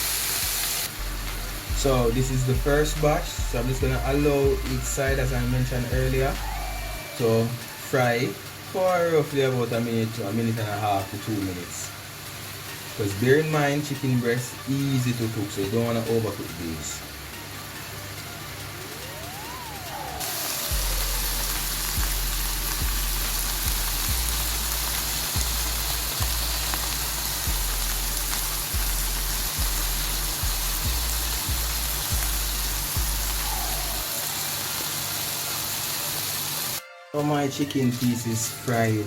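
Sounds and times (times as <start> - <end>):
chicken sizzling in a pan: 0.0 - 17.3, 18.5 - 36.8
background music with bass: 0.4 - 12.0, 12.9 - 34.2.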